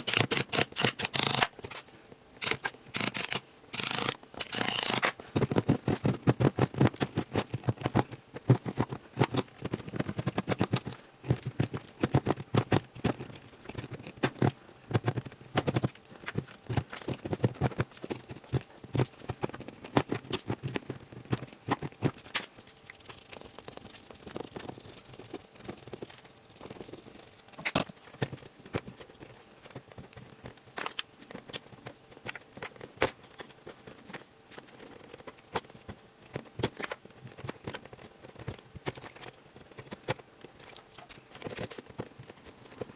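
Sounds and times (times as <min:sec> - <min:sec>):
hand tool tapping and scraping plaster: 0:00.0 - 0:42.9.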